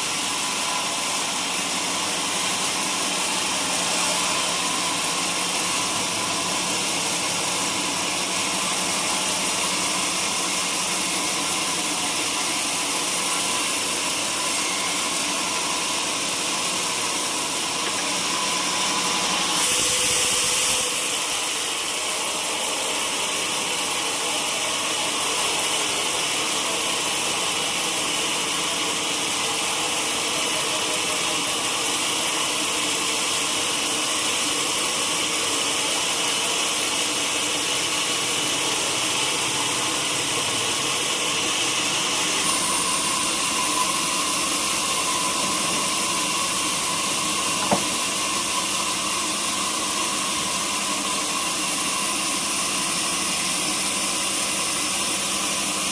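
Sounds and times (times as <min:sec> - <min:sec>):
sawmill saw running: 0:00.0 - 0:55.9.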